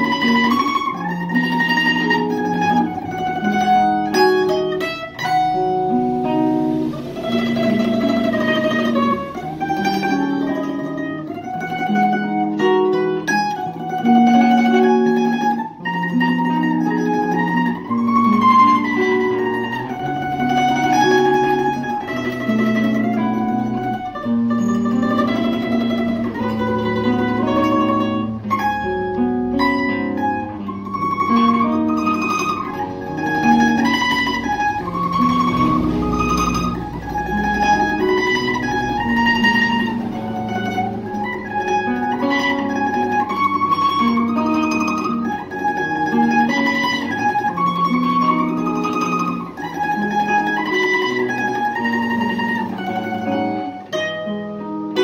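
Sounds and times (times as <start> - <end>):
mandolin melody: 0.0 - 55.0.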